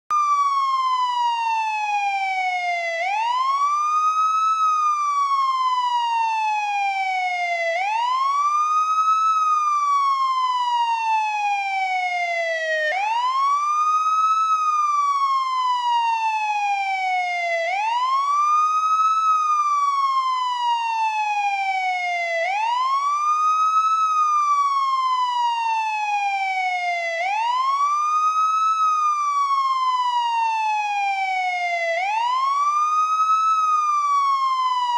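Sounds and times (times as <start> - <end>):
police siren wailing: 0.1 - 34.9.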